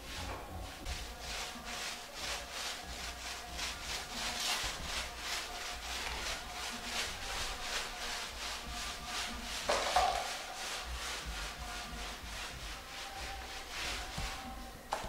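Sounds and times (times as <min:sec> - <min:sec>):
hand rubbing a hard surface: 0:00.0 - 0:15.0.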